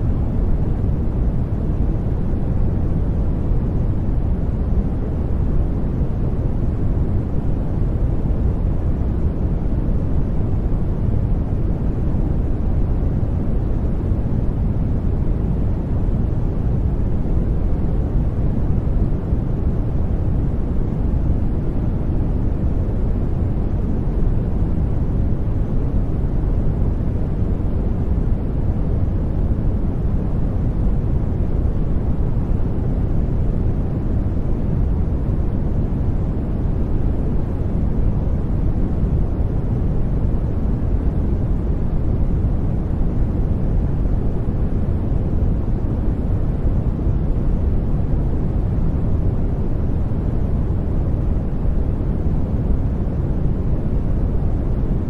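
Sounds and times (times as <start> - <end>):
deep steady noise rush: 0.0 - 55.0.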